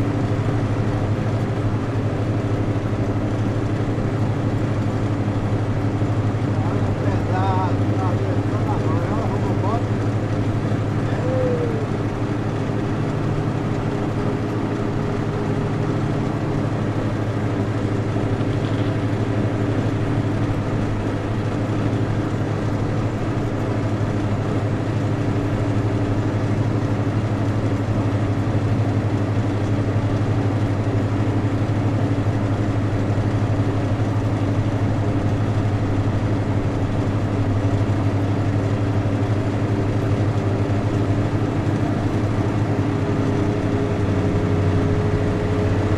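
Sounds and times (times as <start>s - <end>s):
vehicle engine humming: 0.0s - 45.9s.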